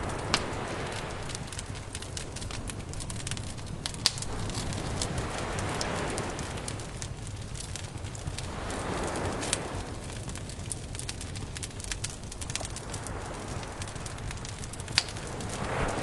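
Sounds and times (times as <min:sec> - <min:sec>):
campfire crackling and popping: 0:00.0 - 0:16.0
surf rushing: 0:00.0 - 0:16.0.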